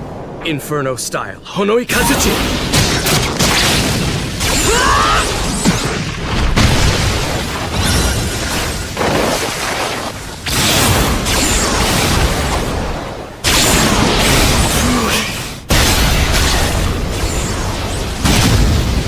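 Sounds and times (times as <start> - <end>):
explosion blasts and booms: 1.9 - 19.0.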